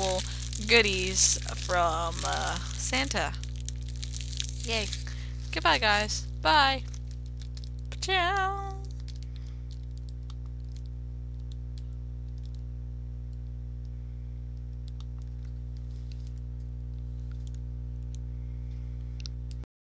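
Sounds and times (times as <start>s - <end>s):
low electrical hum: 0.0s - 19.7s.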